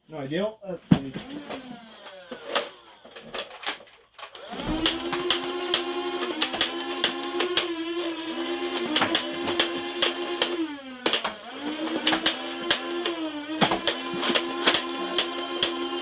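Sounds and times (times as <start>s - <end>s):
toy blaster motor whine: 1.2s - 16.0s
toy blaster firing clicks: 1.4s - 8.1s, 8.7s - 16.0s.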